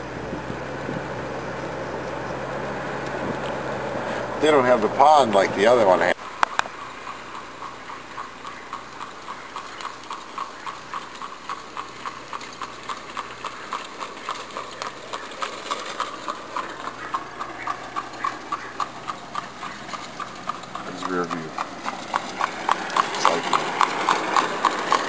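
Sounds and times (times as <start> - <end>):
horse hooves clip-clopping on road: 0.0 - 25.0.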